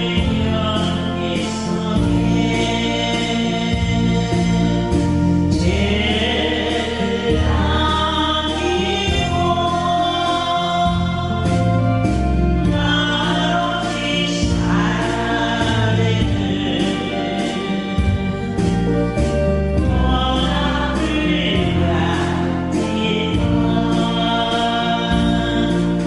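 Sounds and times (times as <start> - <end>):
group of voices singing: 0.0 - 26.0
instrumental accompaniment: 0.0 - 26.0.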